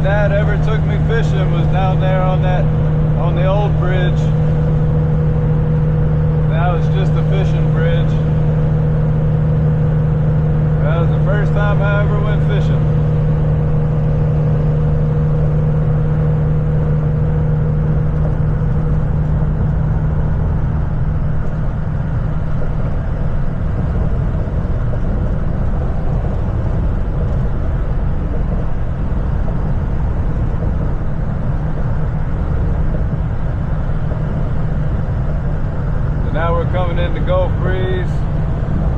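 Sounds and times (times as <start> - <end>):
low hum: 0.0 - 38.9
tyres and engine rumble: 0.0 - 38.9.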